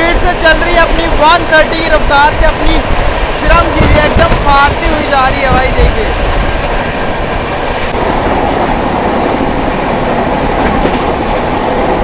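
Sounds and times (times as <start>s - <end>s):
train rushing at high speed: 0.0s - 12.0s.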